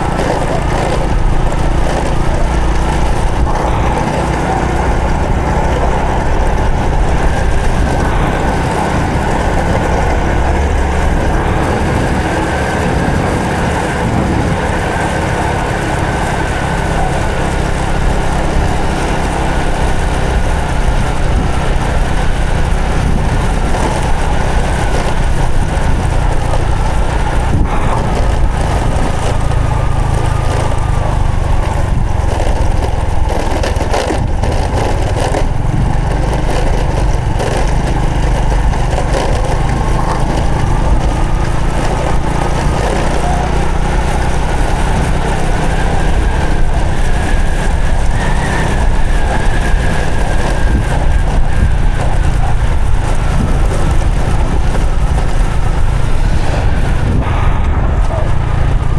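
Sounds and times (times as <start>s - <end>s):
motorcycle engine running: 0.0s - 58.9s
road noise: 0.0s - 58.9s.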